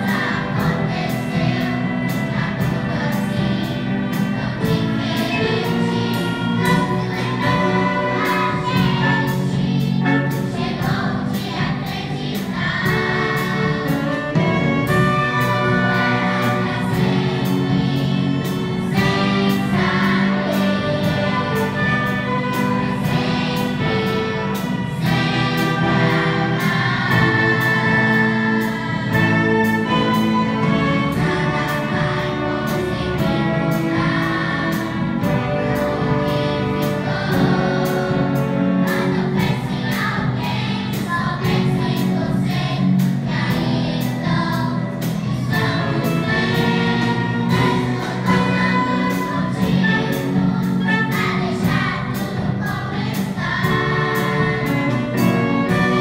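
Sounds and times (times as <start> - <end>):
steady drum beat: 0.0 - 56.0
string orchestra: 0.0 - 56.0
youth choir singing: 0.0 - 56.0.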